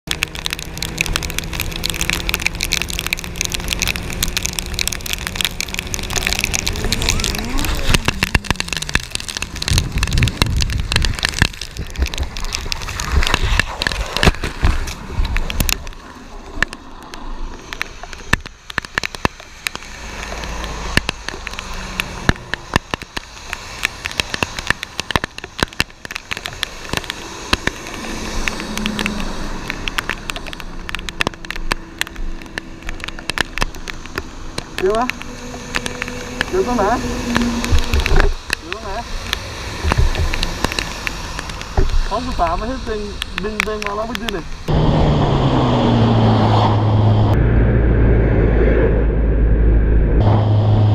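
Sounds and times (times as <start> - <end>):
crackling clicks: 0.0 - 44.7
steady rain: 0.0 - 47.4
wet road noise: 0.0 - 50.9
loud rumbling noise: 0.1 - 16.0, 19.7 - 50.9.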